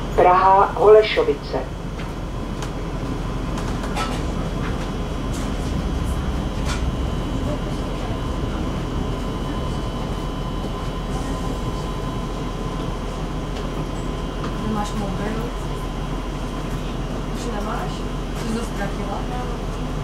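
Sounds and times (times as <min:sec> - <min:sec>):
thin steady whine: 0:00.0 - 0:20.0
train wheels rumbling on rails: 0:01.6 - 0:20.0.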